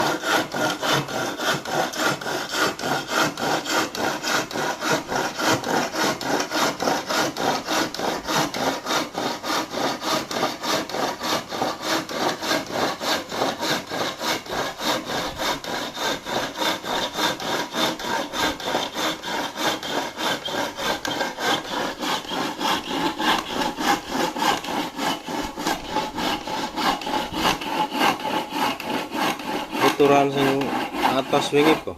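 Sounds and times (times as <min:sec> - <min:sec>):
hand saw cutting wood: 0:00.0 - 0:31.9.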